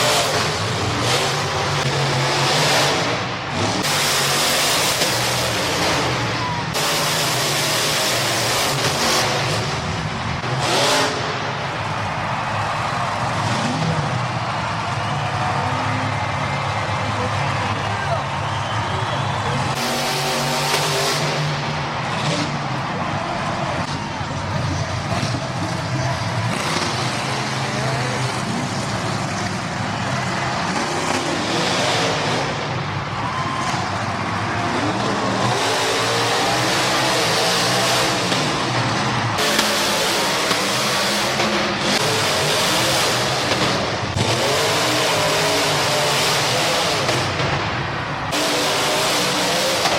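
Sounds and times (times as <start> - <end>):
truck engine revving: 0.0 - 49.9
truck engine running: 0.0 - 49.9.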